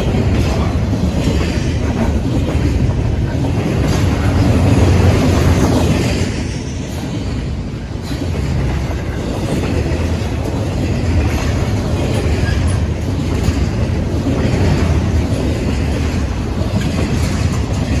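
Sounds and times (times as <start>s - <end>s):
steel train wheels rumbling on rail: 0.0s - 18.0s.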